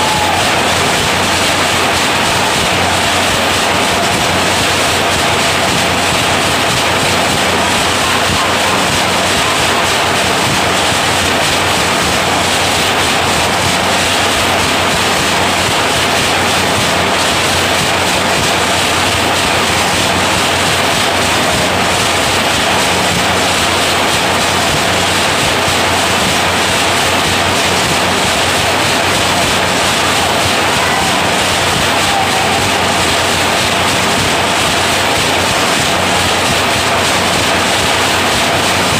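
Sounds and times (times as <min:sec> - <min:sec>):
nail making machine clattering: 0:00.0 - 0:38.9.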